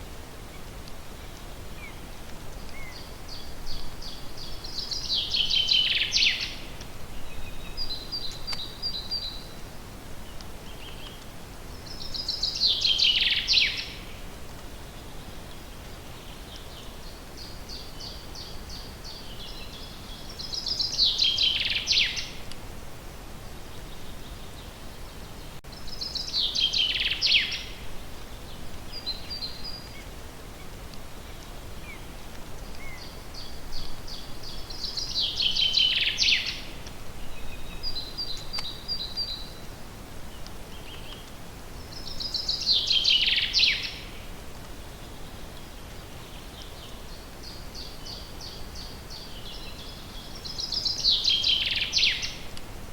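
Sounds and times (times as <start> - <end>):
songbird singing: 0.0 - 22.6, 23.6 - 52.7
steady outdoor hiss: 0.0 - 52.9.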